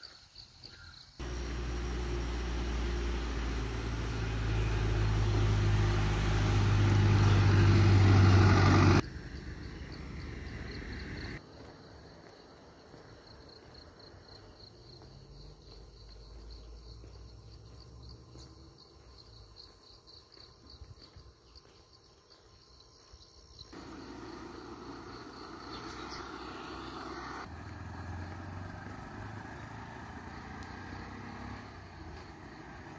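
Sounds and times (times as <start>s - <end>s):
insect chirping: 0.0s - 32.9s.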